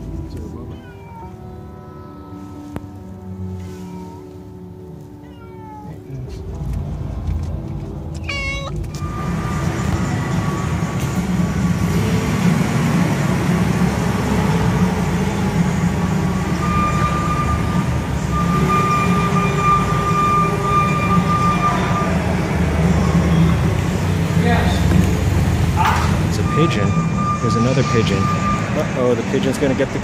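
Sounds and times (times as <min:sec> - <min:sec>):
forklift engines droning: 0:00.0 - 0:05.2, 0:05.9 - 0:30.0.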